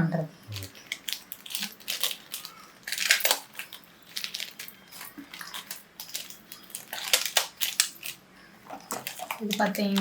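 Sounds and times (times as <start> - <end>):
plastic packets crinkling: 0.5 - 10.0.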